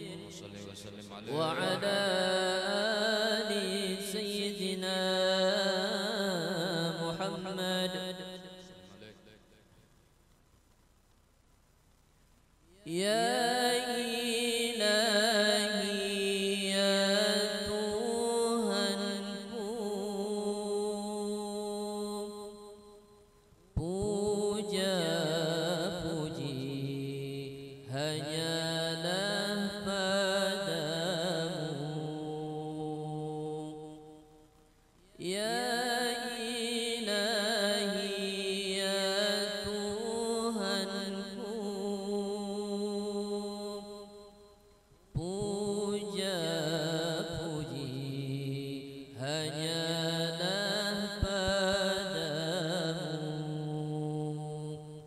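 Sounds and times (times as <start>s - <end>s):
man chanting: 0.0s - 9.7s, 12.7s - 23.2s, 23.8s - 34.3s, 35.1s - 44.5s, 45.1s - 55.0s.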